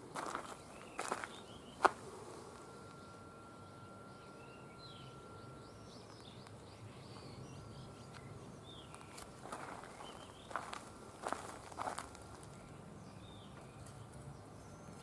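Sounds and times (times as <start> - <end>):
thin steady tone: 0.0 - 13.0
faint birds chirping: 0.0 - 15.0
low background hum: 0.0 - 15.0.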